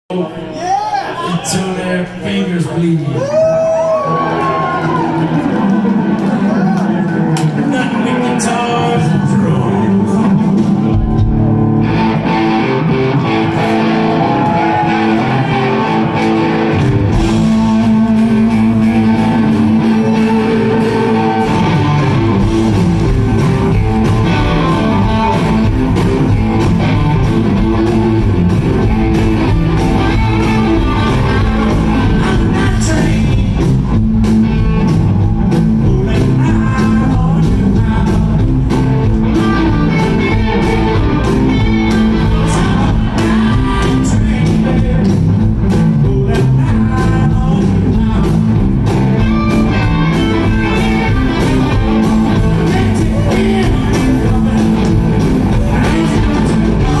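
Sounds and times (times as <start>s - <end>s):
live rock band playing: 2.6s - 57.0s
guitar bending notes: 4.3s - 46.8s, 47.5s - 57.0s.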